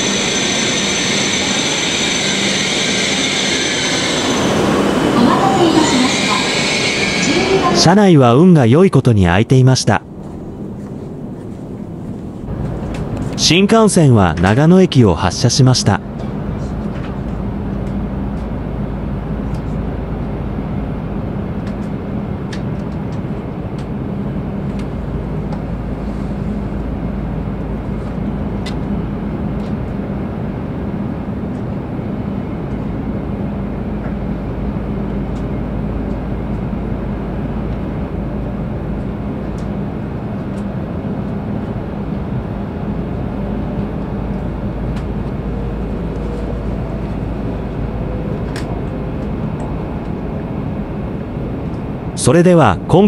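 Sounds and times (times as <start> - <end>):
faint rising whine: 0.0 - 53.0
train cabin rumble and hum: 0.0 - 53.0.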